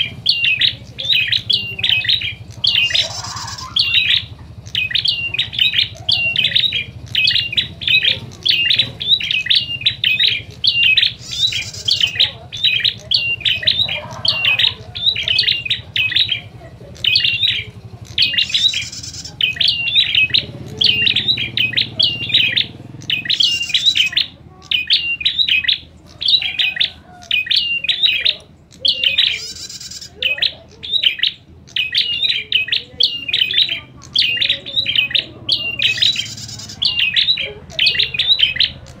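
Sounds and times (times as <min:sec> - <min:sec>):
birds chirping rapidly: 0:00.0 - 0:39.0.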